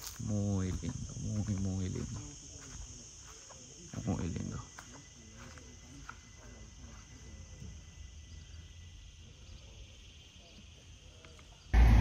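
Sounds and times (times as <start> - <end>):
insects chirring: 0.0 - 11.8.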